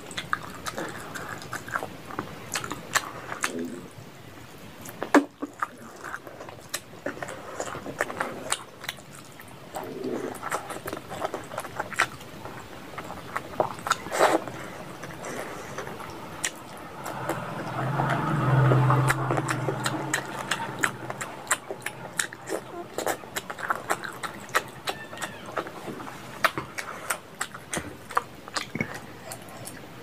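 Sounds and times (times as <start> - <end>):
wet chewing and lip-smacking: 0.0 - 3.8, 4.8 - 30.0
low steady hum: 0.0 - 30.0.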